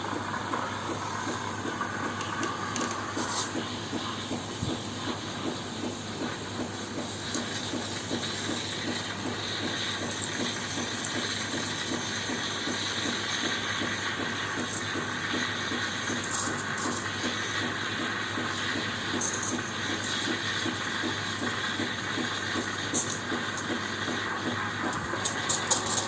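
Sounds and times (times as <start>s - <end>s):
steam hissing into milk: 0.0s - 26.0s.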